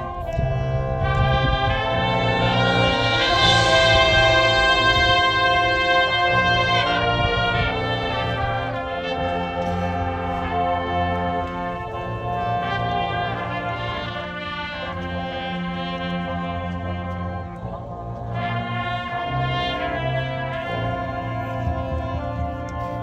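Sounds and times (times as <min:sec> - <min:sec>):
low brass bass notes: 0:00.0 - 0:23.0
marching band brass chords: 0:00.0 - 0:23.0.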